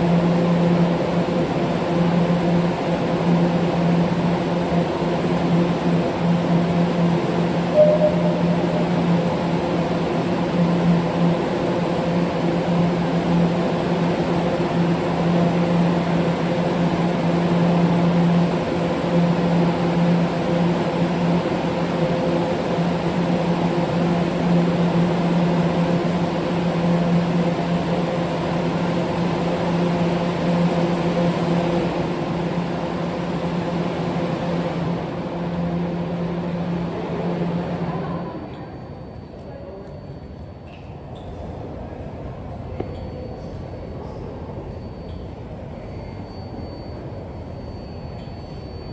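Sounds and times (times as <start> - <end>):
subway train equipment humming: 0.0 - 48.9.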